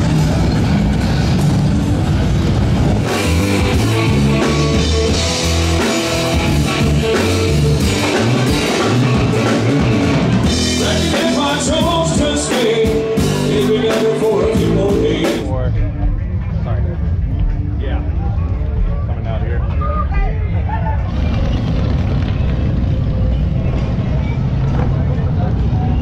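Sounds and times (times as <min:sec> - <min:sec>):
rock music with singing: 0:00.0 - 0:21.6.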